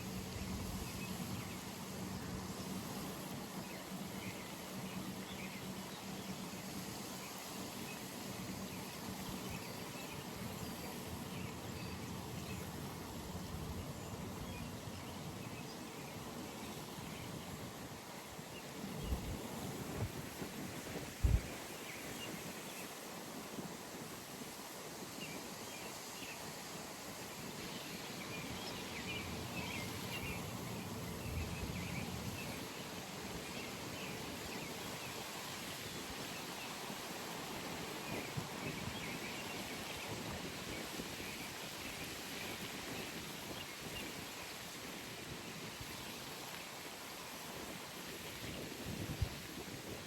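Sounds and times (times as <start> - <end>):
wind and rustling leaves: 0.0 - 50.0.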